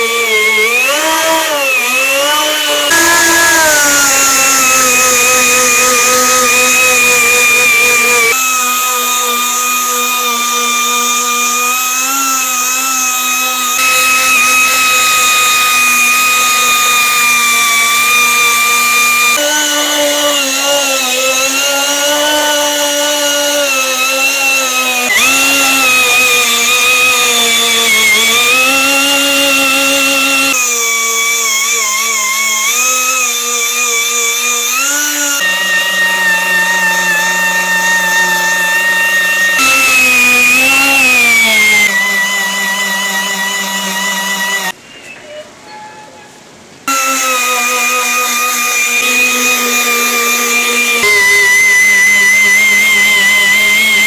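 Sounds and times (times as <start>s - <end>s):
electric power tool whining: 0.0s - 44.8s, 46.9s - 54.0s.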